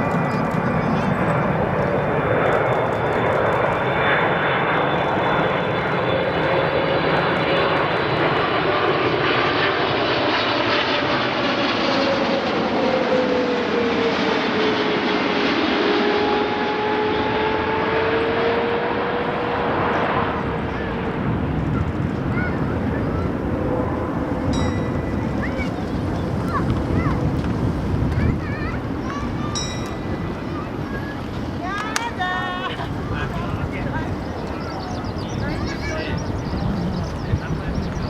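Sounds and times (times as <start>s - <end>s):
jet airliner engines roaring: 0.0s - 38.0s.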